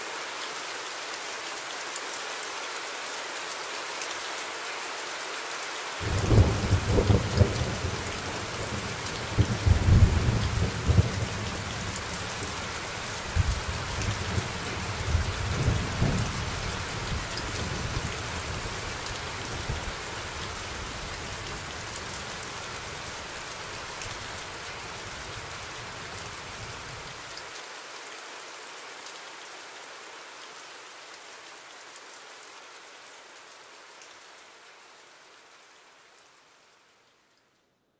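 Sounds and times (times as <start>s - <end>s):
steady rain: 0.0s - 37.7s.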